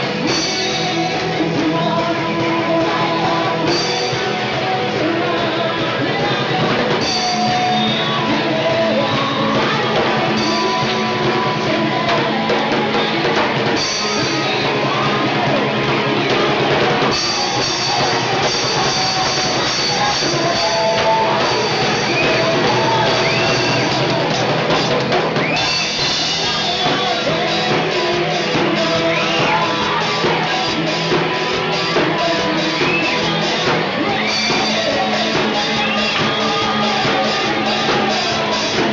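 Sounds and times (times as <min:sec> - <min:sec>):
drum kit: 0:00.0 - 0:38.9
guitar: 0:00.0 - 0:38.9
people singing: 0:00.0 - 0:38.9.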